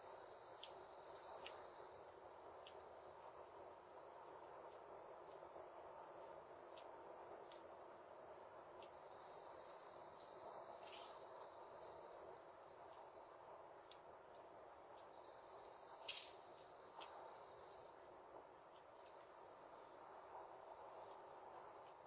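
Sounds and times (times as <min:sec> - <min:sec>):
background hiss: 0:00.0 - 0:22.0
crickets trilling: 0:00.0 - 0:22.0.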